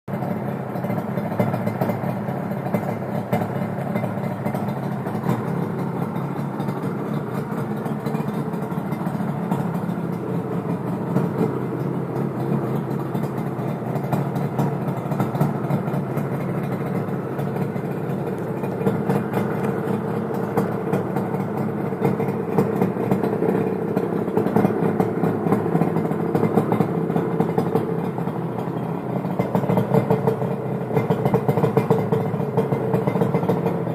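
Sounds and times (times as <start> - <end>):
two-stroke engine idling: 0.1 - 33.9.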